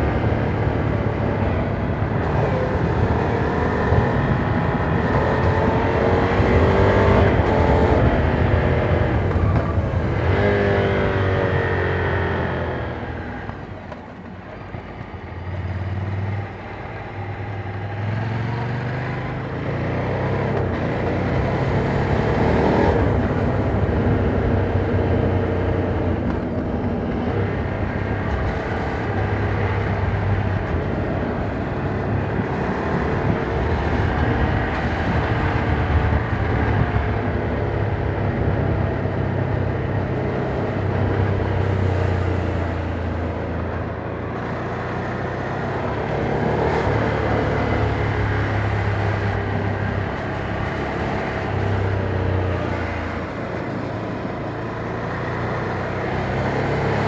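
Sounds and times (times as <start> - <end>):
wind noise: 0.0 - 15.4, 16.3 - 57.0
motorcycle engine: 0.0 - 57.0.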